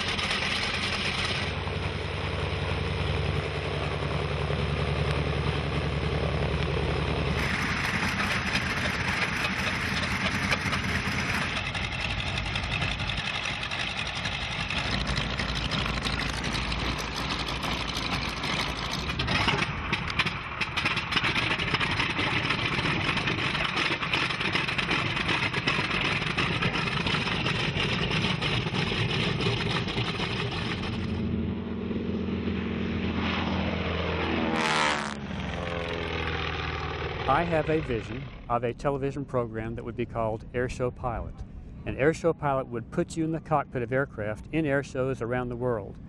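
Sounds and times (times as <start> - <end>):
propeller plane engines running: 0.0 - 46.0
propeller plane passing low: 0.0 - 46.0.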